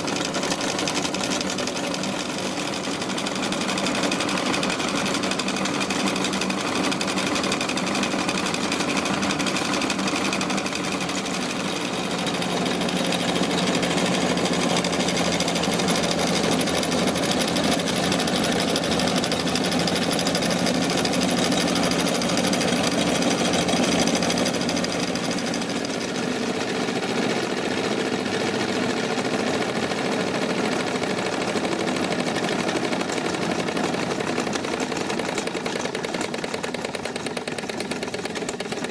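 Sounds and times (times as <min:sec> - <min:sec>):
toy steam engine clatter: 0:00.0 - 0:38.9.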